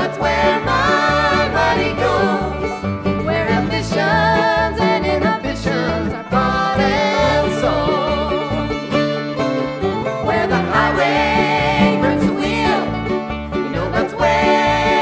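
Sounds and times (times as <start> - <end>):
country instrumental music: 0.0 - 15.0.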